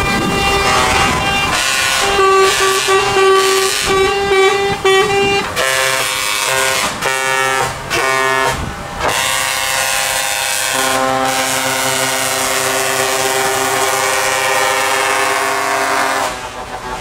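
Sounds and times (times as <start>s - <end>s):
low multi-tone truck horn: 0.0s - 17.0s
truck air horn blasts: 0.0s - 17.0s.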